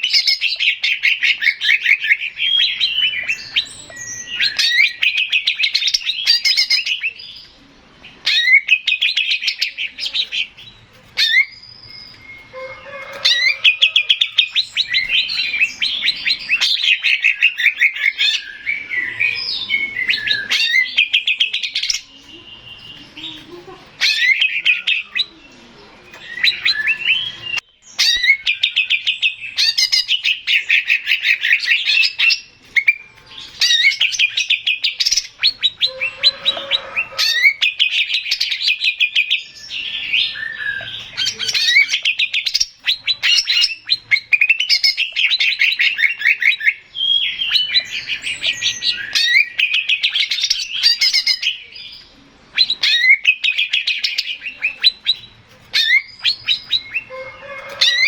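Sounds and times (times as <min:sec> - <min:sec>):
bird singing trilled phrases: 0:00.0 - 0:58.0.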